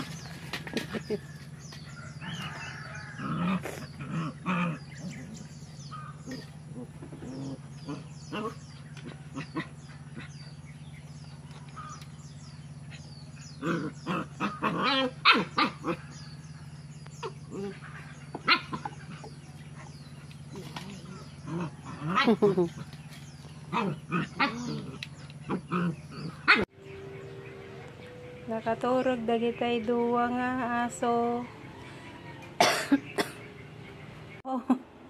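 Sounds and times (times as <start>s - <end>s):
puppies barking and yapping: 0.0s - 28.5s
steady low hum: 0.0s - 35.0s.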